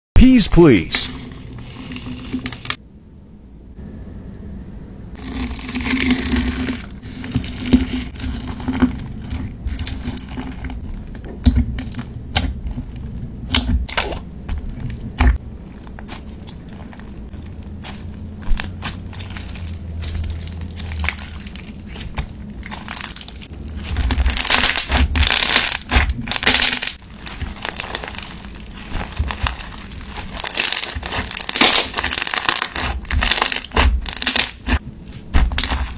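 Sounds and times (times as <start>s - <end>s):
slime crackling and crunching: 5.2s - 35.9s.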